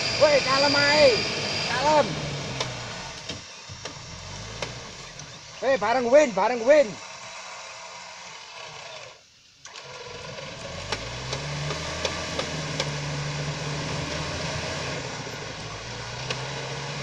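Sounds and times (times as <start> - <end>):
jeep engine revving: 0.0 - 17.0.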